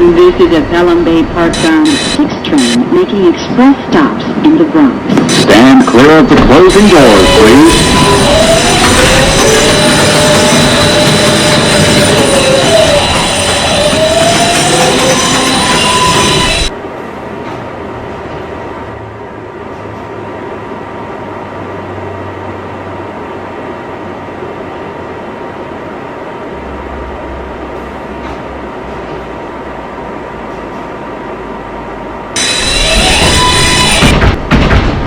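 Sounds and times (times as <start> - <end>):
subway car hum and rushing: 0.0 - 35.0.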